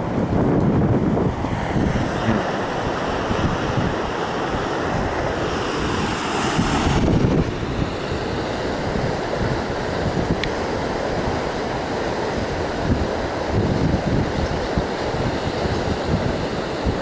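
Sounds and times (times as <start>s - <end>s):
flowing river water: 0.0s - 17.0s
gusty wind buffeting microphone: 0.0s - 17.0s.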